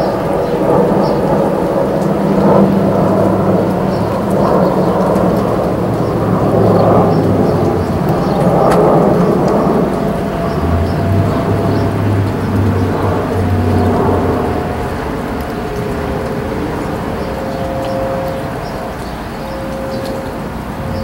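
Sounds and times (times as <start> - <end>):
distant warning siren: 0.0 - 21.0
loud steady rumble: 0.0 - 21.0.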